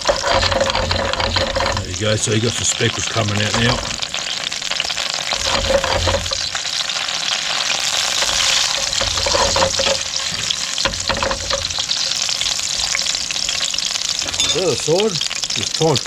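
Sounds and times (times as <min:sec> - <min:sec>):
beetroot sizzling in hot oil: 0:00.0 - 0:16.0.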